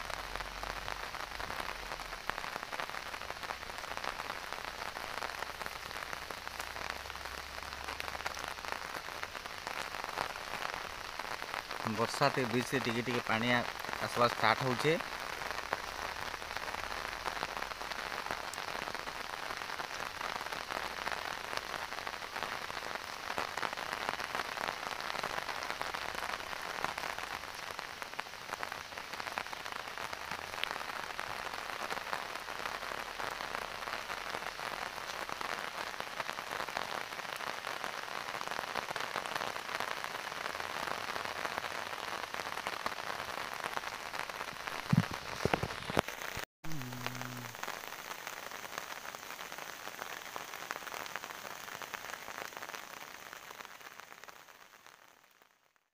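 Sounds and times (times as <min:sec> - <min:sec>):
steady rain falling: 0:00.0 - 0:55.8.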